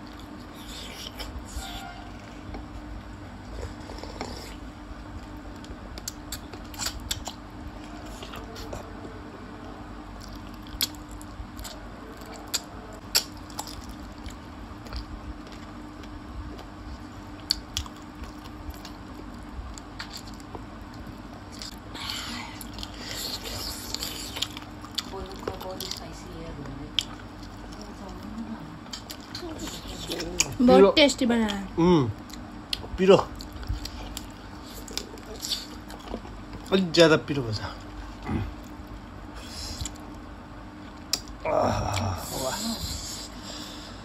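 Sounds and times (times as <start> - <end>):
wet chewing and sucking: 0.0 - 8.9, 10.1 - 26.1, 26.9 - 30.6, 32.2 - 36.7, 37.8 - 43.6
steady low hum: 0.0 - 44.0.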